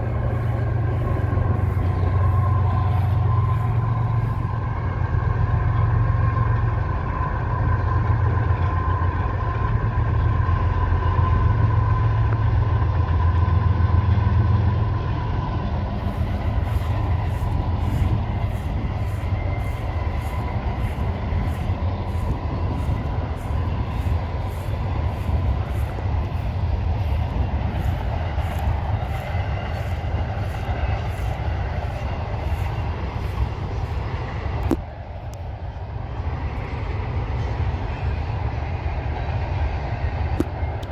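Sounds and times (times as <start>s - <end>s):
faint whine: 0.0s - 40.9s
freight train rumble: 0.0s - 40.9s.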